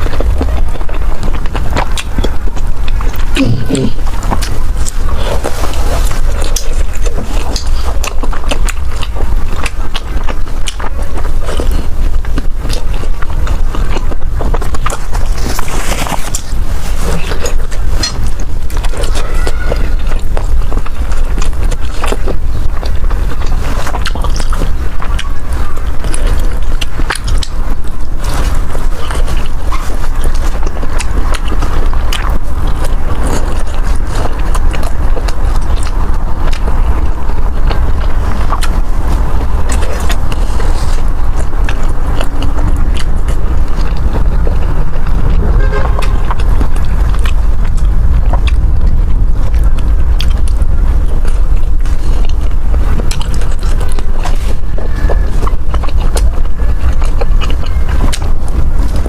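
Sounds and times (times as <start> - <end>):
close-miked chewing: 0.0 - 59.0
constant deep rumble: 0.0 - 59.0.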